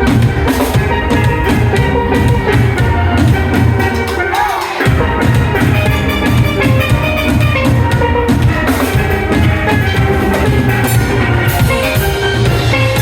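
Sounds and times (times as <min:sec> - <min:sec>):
drums: 0:00.0 - 0:13.0
heavy bass line: 0:00.0 - 0:13.0
steelpans playing a tune: 0:00.0 - 0:13.0.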